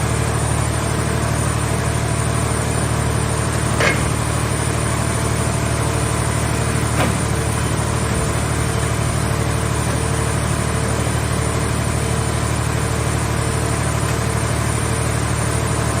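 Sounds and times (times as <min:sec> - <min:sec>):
machine power unit droning: 0:00.0 - 0:16.0.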